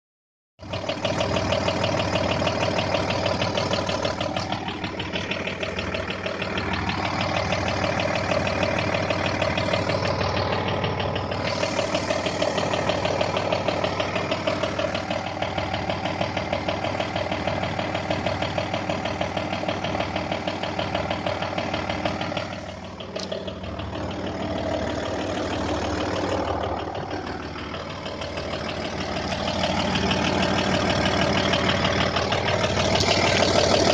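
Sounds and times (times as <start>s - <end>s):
diesel engine idling with knock: 0.6s - 33.9s.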